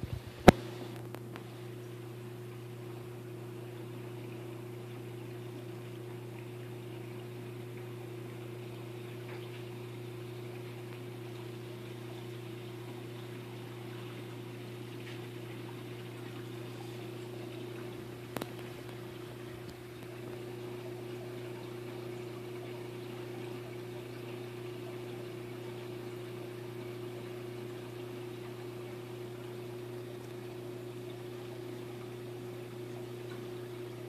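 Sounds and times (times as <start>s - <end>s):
aquarium pump humming: 0.0s - 34.0s.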